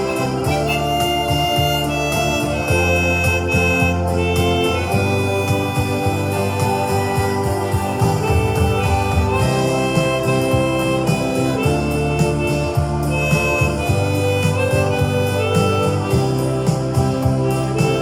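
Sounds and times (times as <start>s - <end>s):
bass line and steady beat: 0.0s - 18.0s
harmonica playing slow melody: 0.0s - 18.0s.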